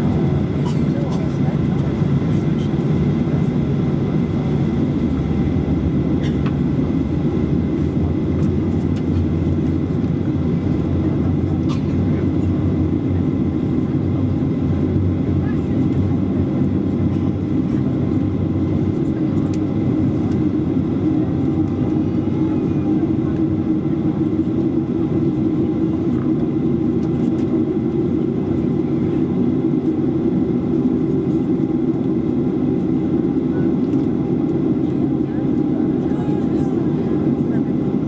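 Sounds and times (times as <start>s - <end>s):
jet engines droning: 0.0s - 38.0s.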